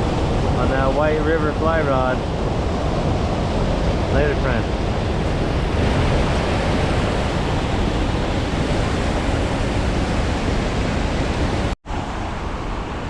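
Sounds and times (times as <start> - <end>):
creek water flowing: 0.0 - 13.0
wind rumble on microphone: 0.0 - 13.0.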